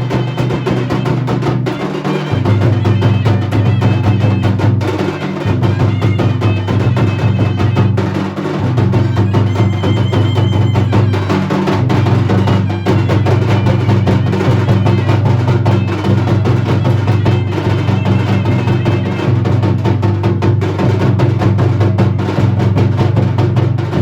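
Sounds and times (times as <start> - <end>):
drums playing fast rhythm: 0.0 - 24.0.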